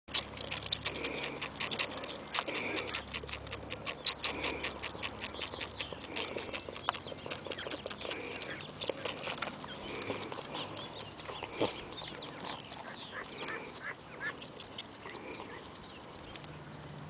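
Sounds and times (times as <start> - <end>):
goat kids sucking on bottles: 0.1 - 16.6.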